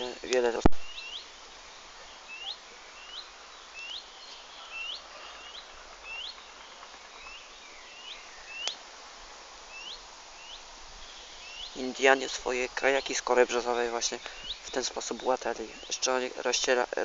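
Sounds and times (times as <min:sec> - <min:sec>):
small bird chirping: 0:00.0 - 0:08.8, 0:09.7 - 0:16.7.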